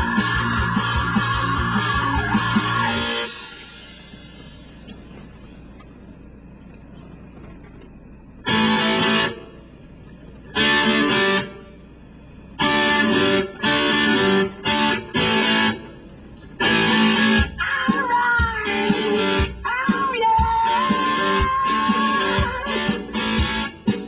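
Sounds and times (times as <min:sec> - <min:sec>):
distorted electric guitar chords: 0:00.0 - 0:05.2, 0:08.4 - 0:24.0.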